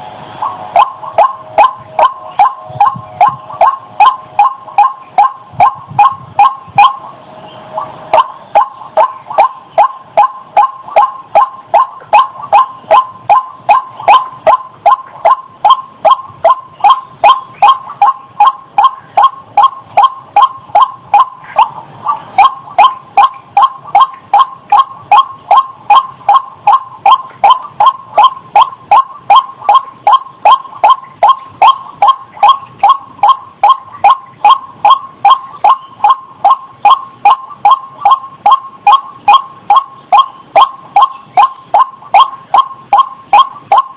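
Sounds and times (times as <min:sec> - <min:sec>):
waterhen calling: 0:00.4 - 0:43.9.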